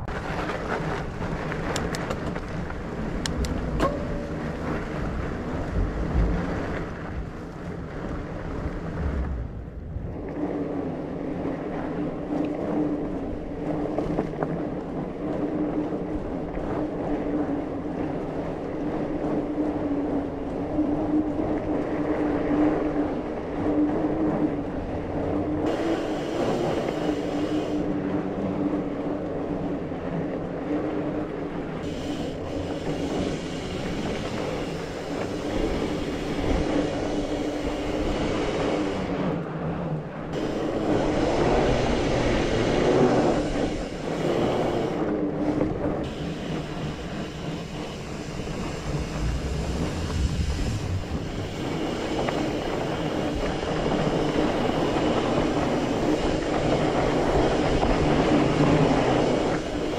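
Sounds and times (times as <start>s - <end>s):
bike tyres rumbling and rattling: 0.0s - 59.9s
wind noise on microphone: 0.0s - 59.9s.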